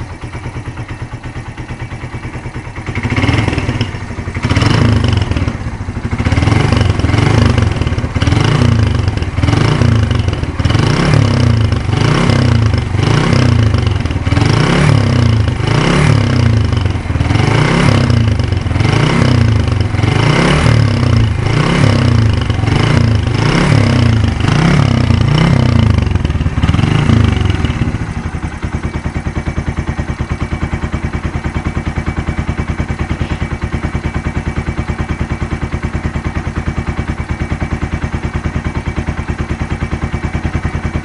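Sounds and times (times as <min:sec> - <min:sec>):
motorcycle engine idling: 0:00.0 - 0:41.0
motorcycle engine revving: 0:00.0 - 0:41.0.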